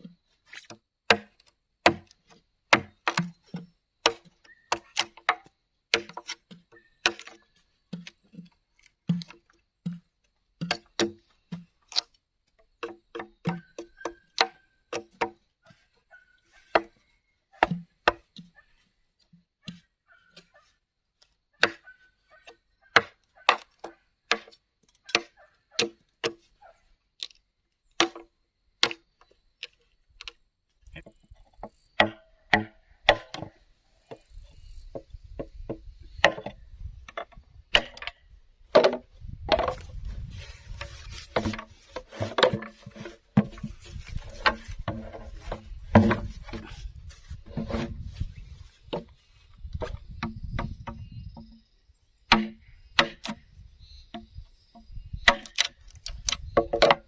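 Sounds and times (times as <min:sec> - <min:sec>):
hand tool striking wood: 0:00.0 - 0:15.8, 0:16.7 - 0:17.0, 0:17.6 - 0:18.6, 0:19.6 - 0:20.5, 0:21.6 - 0:26.5, 0:28.0 - 0:30.4, 0:31.0 - 0:34.2, 0:34.9 - 0:51.6, 0:52.3 - 0:53.4, 0:54.1 - 0:57.0.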